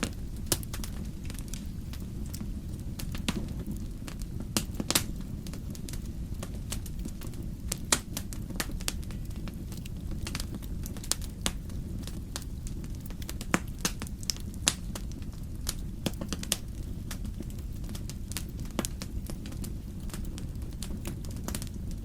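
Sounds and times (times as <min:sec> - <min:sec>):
steady low rumble: 0:00.0 - 0:22.0
wood fire crackling: 0:00.0 - 0:22.0.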